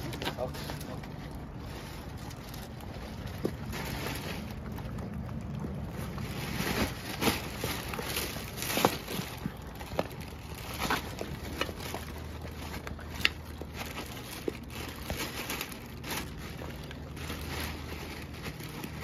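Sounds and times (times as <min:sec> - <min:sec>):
dog chewing and crunching: 0:00.0 - 0:19.0.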